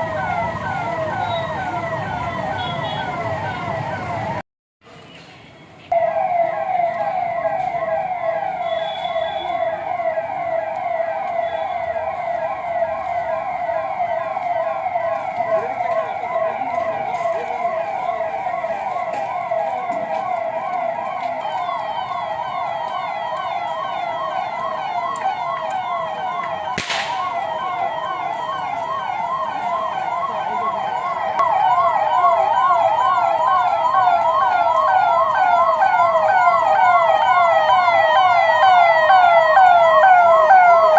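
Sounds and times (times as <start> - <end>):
police sirens yelping: 0.0 - 4.4, 5.9 - 40.9.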